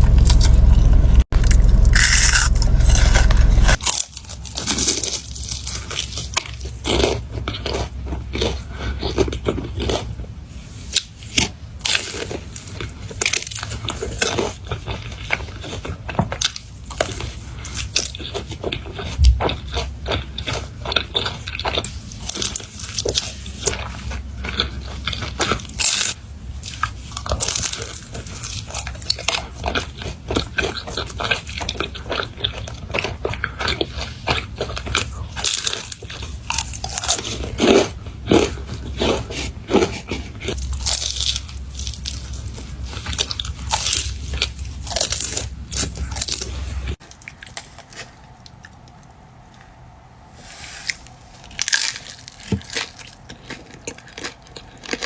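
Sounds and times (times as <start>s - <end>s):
crunchy food chewing: 0.0s - 50.1s, 50.8s - 55.0s.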